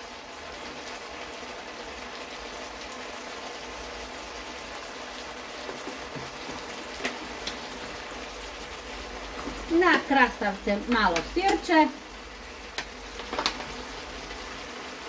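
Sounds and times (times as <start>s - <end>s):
meat and onions sizzling in a pan: 0.0s - 15.0s.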